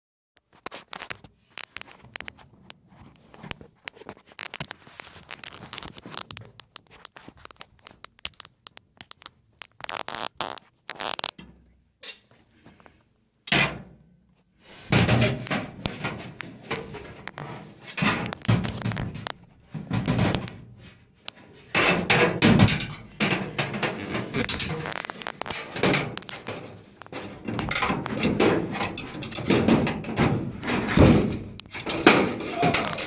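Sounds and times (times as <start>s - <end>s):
wood fire crackling: 0.6s - 11.4s, 15.4s - 33.0s.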